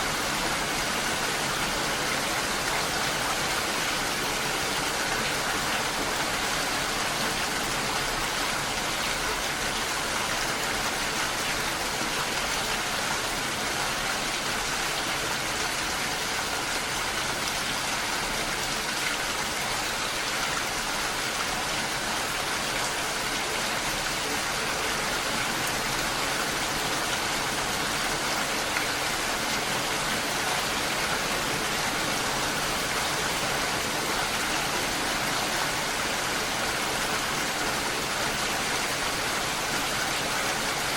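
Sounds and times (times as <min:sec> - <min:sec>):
rain falling on a lake: 0:00.0 - 0:40.9.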